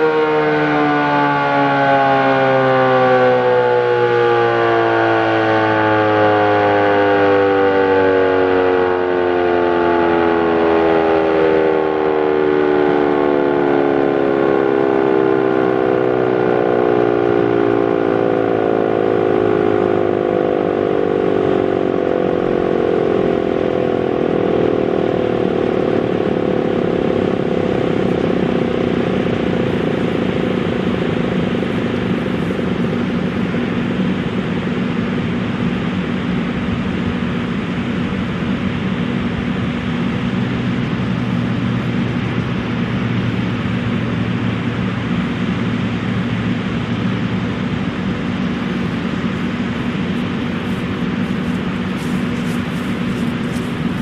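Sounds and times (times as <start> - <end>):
low hum and rushing noise: 0.0 - 54.0
rotating siren winding down: 0.0 - 54.0.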